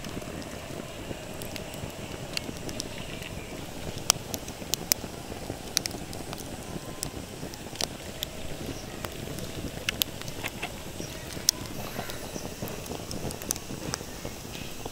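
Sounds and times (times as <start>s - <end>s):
sharp pops of fire: 0.0s - 14.9s
wood fire crackling: 0.0s - 14.9s.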